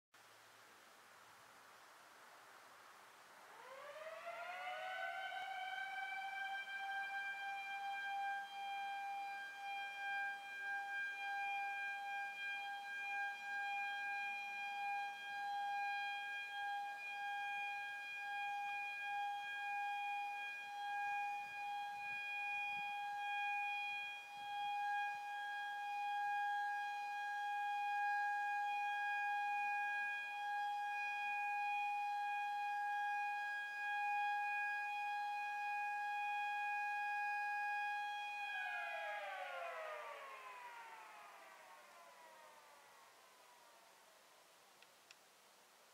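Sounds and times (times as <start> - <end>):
siren steady tone: 3.2 - 44.6.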